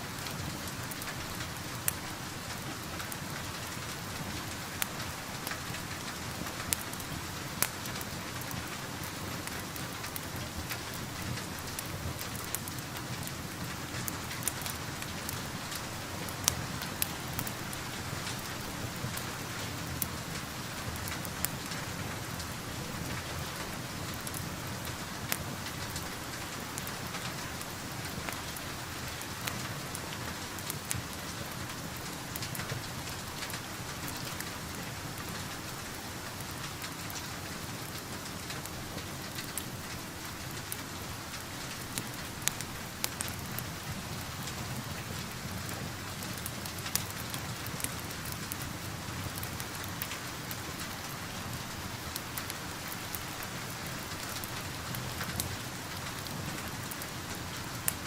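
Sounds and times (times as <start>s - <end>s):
steady rain hiss: 0.0s - 58.0s
fireplace crackling and popping: 0.1s - 58.0s.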